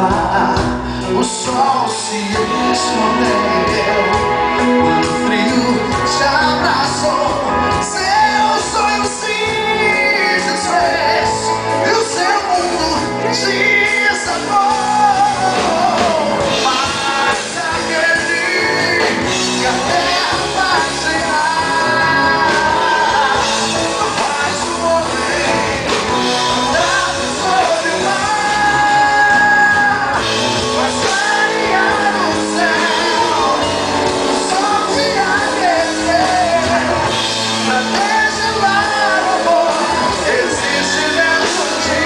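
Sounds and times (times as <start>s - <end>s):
drums: 0.0s - 42.0s
electric guitars: 0.0s - 42.0s
keyboard: 0.0s - 42.0s
lead melody line: 0.0s - 42.0s
rock band playing: 0.0s - 42.0s.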